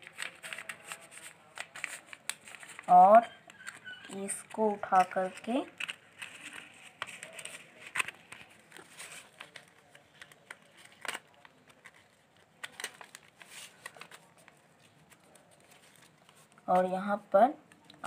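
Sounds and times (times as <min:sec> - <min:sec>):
paper rustling and crinkling: 0:00.0 - 0:16.9.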